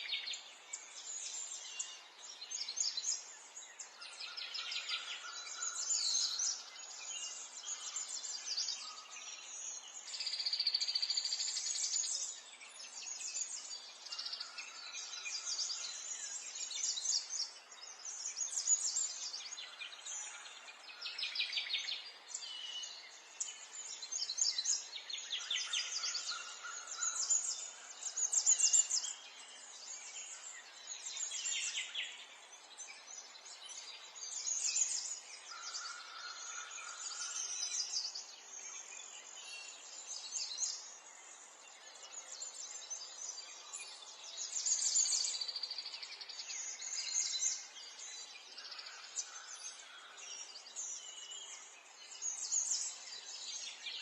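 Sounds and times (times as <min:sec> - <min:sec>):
faint background hiss: 0:00.0 - 0:54.0
songbirds chirping and trilling: 0:00.0 - 0:54.0.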